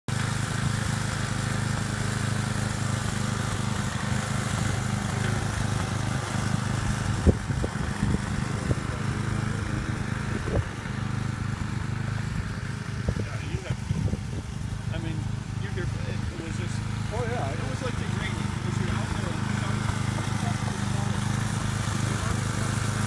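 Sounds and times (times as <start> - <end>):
small engine running: 0.1 - 23.0.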